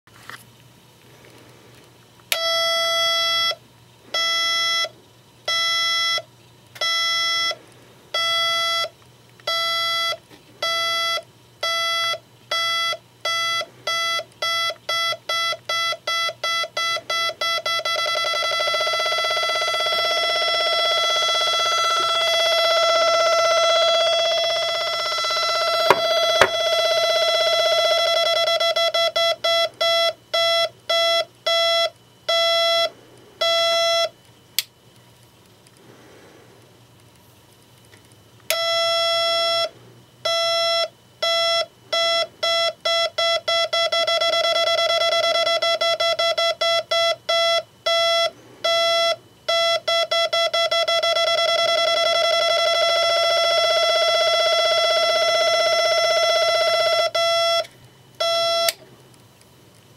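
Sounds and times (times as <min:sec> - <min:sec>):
electronic square-wave beeping: 0:02.3 - 0:04.9, 0:05.5 - 0:08.9, 0:09.5 - 0:34.2, 0:38.5 - 0:58.8.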